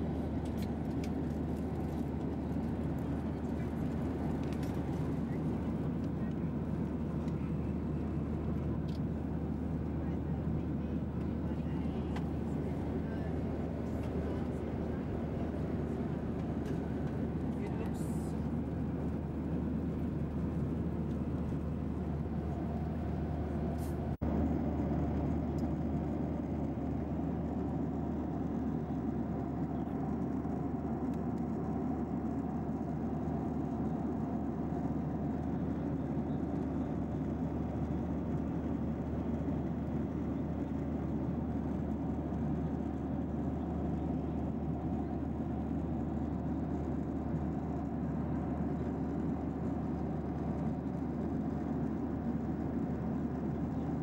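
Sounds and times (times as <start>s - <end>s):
airplane cabin roar: 0.0s - 54.0s.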